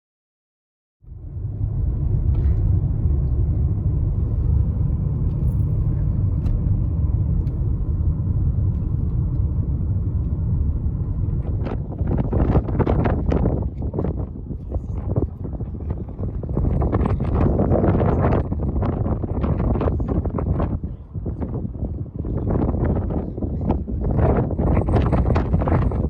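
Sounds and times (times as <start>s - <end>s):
loud low rumble: 1.0s - 26.0s.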